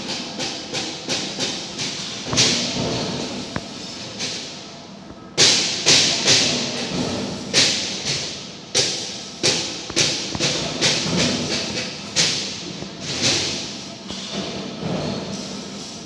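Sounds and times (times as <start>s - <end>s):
steady noise: 0.0s - 15.1s
sharp bangs echoing in a hall: 0.0s - 16.0s.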